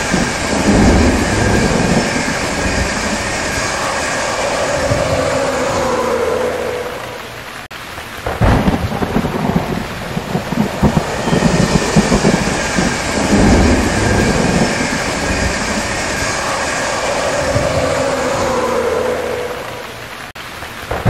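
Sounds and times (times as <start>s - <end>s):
rushing air of passing train: 0.0s - 7.7s, 8.4s - 20.3s
train wheels rumbling on rails: 0.0s - 21.0s.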